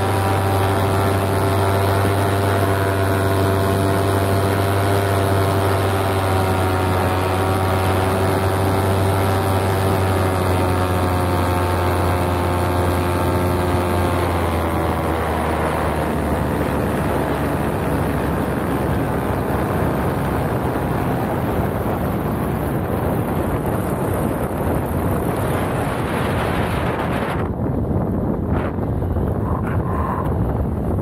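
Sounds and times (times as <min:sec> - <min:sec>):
paramotor engine drone: 0:00.0 - 0:31.0
wind rushing over microphone: 0:00.0 - 0:31.0.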